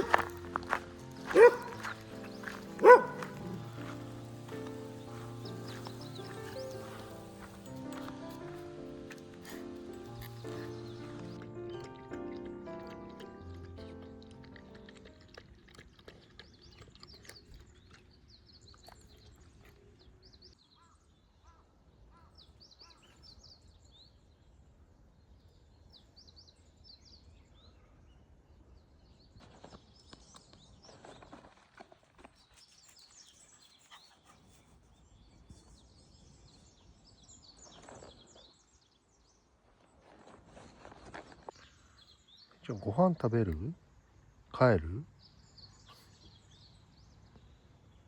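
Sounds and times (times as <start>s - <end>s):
faint birds chirping: 0.0s - 48.0s.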